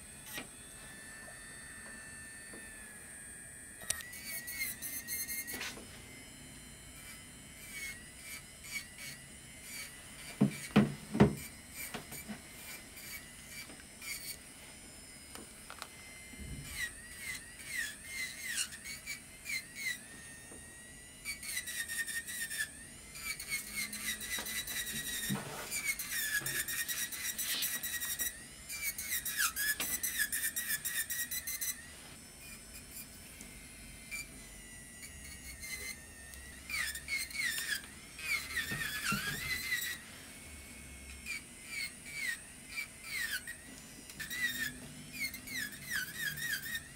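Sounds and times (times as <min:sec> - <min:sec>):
electric nail drill whining: 0:00.0 - 0:46.9
drill bit grinding gel: 0:00.1 - 0:46.9.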